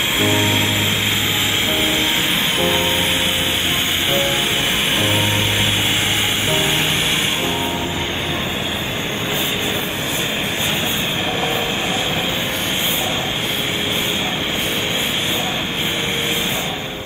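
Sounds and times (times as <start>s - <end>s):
gas torch rushing: 0.0s - 17.0s
music track: 0.0s - 17.0s.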